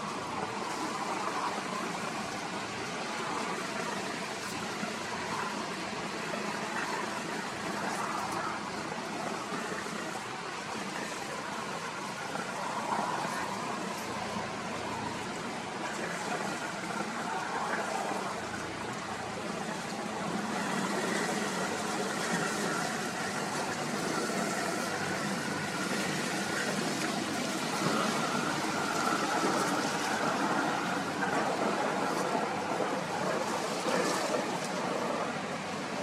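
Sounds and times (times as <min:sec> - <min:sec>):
river water rushing: 0:00.0 - 0:36.0
strong wind: 0:00.0 - 0:36.0.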